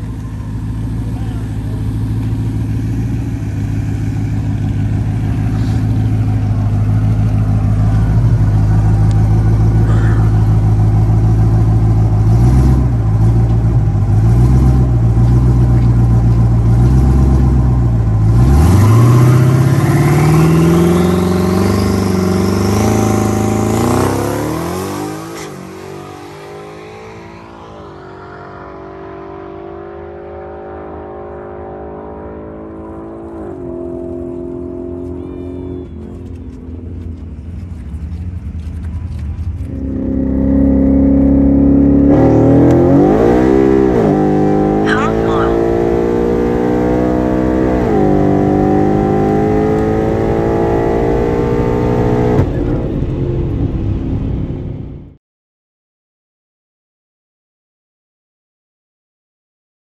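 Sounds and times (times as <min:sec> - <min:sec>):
car engine revving: 0:00.0 - 0:55.2.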